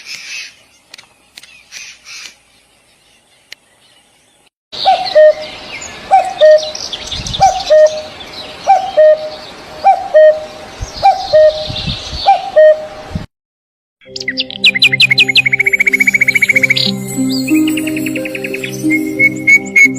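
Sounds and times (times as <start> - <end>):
birds chirping: 0.0 - 12.9, 14.0 - 19.9.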